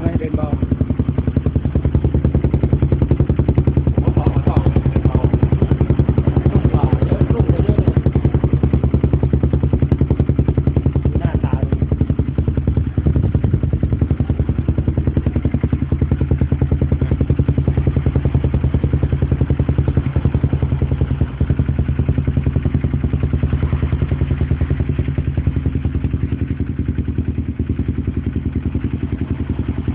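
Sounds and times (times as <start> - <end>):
motorcycle engine running steadily: 0.0 - 29.9.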